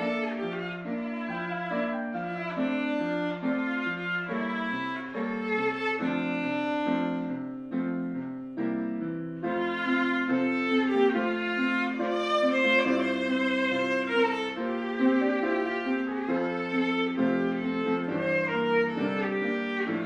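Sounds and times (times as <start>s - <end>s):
violin music: 0.0s - 20.0s.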